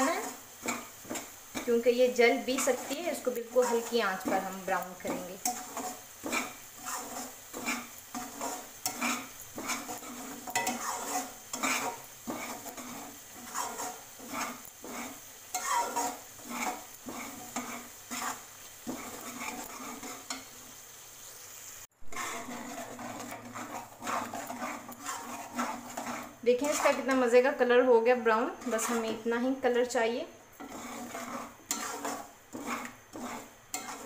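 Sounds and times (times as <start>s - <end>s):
metal spatula scraping a pan: 0.0s - 20.7s, 22.0s - 34.0s
faint sizzle in oil: 0.0s - 34.0s.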